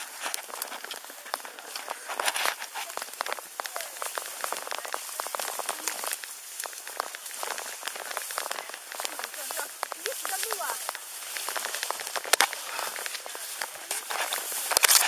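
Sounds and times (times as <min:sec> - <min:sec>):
dry grass rustling and crackling: 0:00.0 - 0:15.0.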